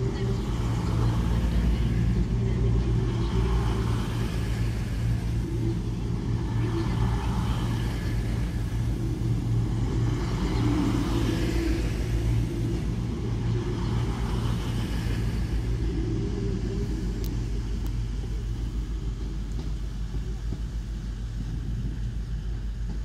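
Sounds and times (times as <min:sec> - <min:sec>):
diesel engine drone: 0:00.0 - 0:23.0.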